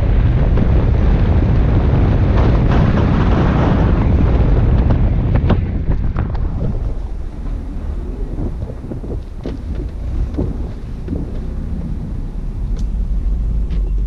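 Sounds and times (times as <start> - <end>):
car rumble and tyres on snow: 0.0 - 14.0
wind buffeting microphone: 0.0 - 14.0.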